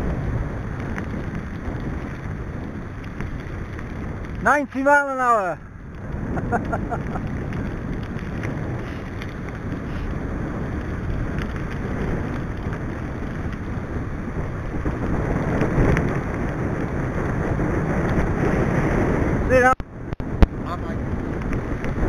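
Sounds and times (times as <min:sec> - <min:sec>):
bike tyres rolling on tarmac: 0:00.0 - 0:22.0
wind buffeting microphone: 0:00.0 - 0:22.0.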